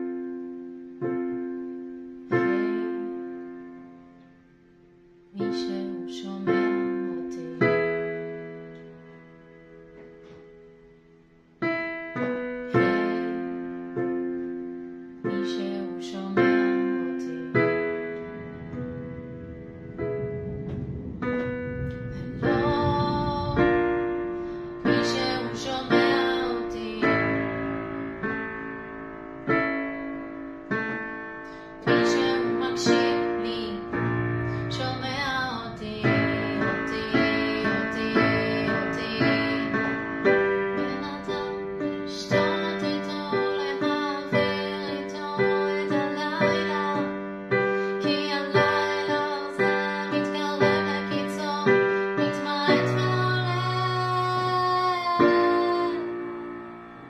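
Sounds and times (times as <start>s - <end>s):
digital piano chords: 0.0s - 57.0s.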